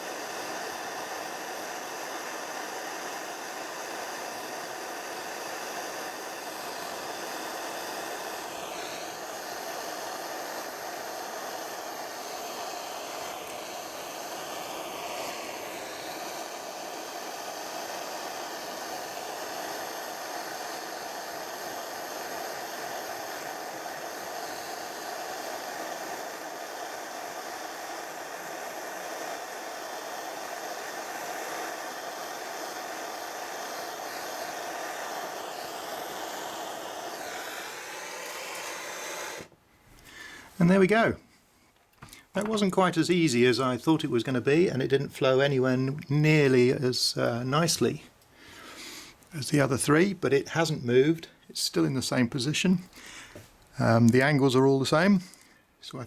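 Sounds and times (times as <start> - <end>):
blowlamp flame hissing: 0.0 - 56.0.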